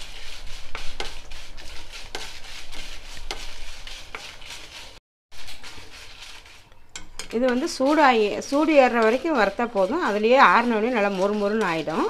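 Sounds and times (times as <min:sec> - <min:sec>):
spatula scraping chillies in a pan: 0:00.0 - 0:12.0.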